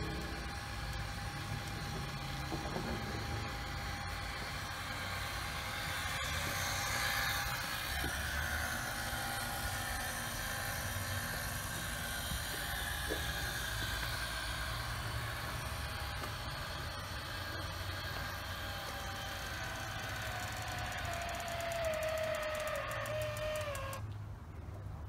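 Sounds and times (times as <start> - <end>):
motor humming with faint whine: 0.0 - 25.0.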